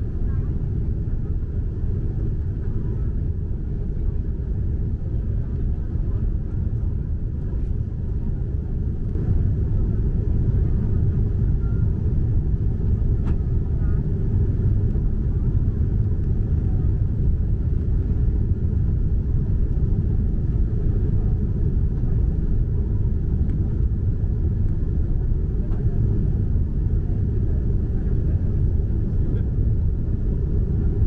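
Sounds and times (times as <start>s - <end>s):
airplane cabin rumble: 0.0s - 31.0s.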